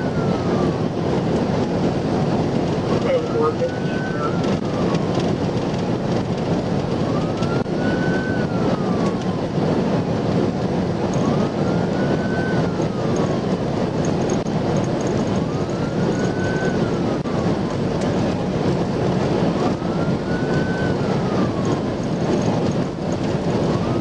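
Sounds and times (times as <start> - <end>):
police siren wailing: 0.0 - 24.0
road and engine noise: 0.0 - 24.0.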